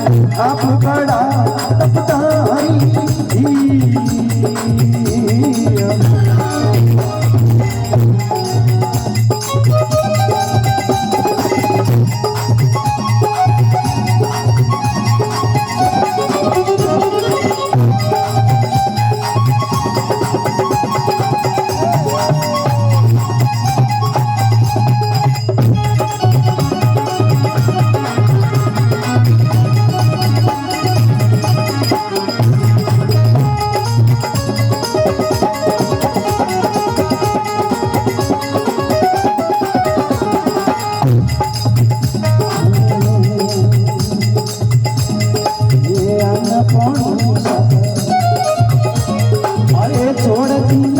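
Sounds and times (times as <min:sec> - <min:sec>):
folk devotional melody: 0:00.0 - 0:50.9
hand drum rhythm: 0:00.0 - 0:50.9.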